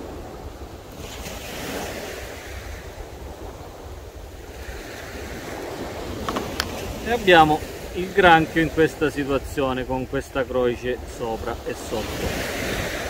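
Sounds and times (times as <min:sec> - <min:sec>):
waves washing onto pebbles: 0:00.0 - 0:13.0
wind rumbling on microphone: 0:00.0 - 0:13.0.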